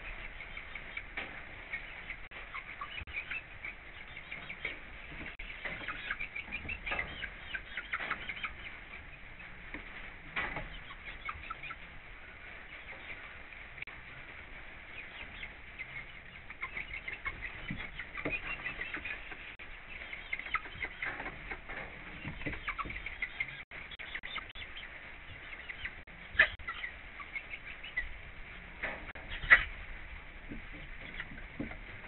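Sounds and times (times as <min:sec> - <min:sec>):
faint steady hiss: 0:00.0 - 0:32.0
hens pecking and scratching: 0:00.0 - 0:32.0.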